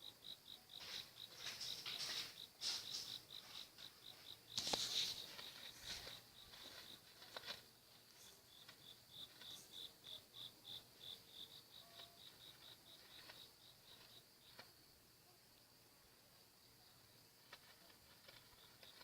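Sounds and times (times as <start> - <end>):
faint cricket chirping: 0.0 - 19.0.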